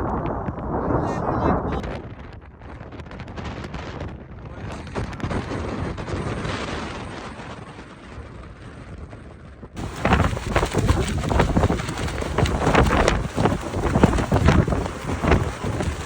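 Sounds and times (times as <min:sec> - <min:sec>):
wind gusts buffeting microphone: 0:00.0 - 0:16.0.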